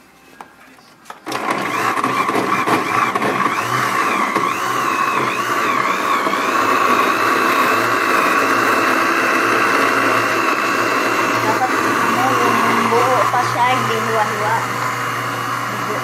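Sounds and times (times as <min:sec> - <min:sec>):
electric blender motor running: 0:01.3 - 0:16.0.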